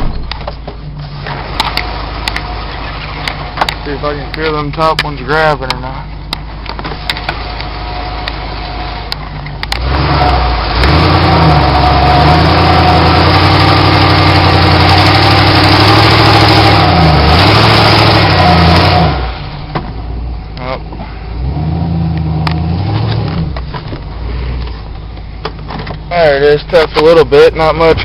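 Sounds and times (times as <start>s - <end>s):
truck engine revving: 0.9s - 5.8s, 6.4s - 25.0s.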